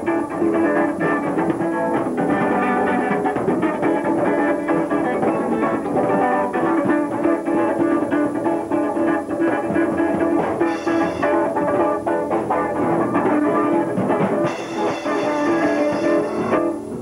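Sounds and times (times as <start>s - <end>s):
drum kit steady beat: 0.0s - 17.0s
guitar playing: 0.0s - 17.0s.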